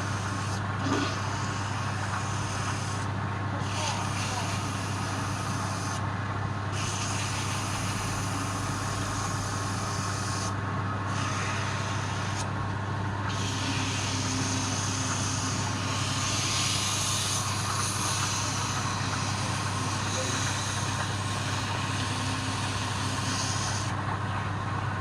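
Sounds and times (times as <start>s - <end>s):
machine hiss: 0.0s - 6.0s, 6.7s - 12.6s, 13.2s - 24.0s
machine humming: 0.0s - 25.0s.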